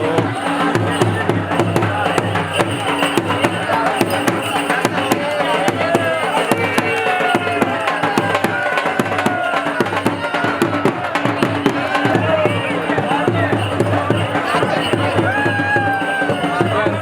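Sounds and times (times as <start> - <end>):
fast hand drumming: 0.0 - 17.0.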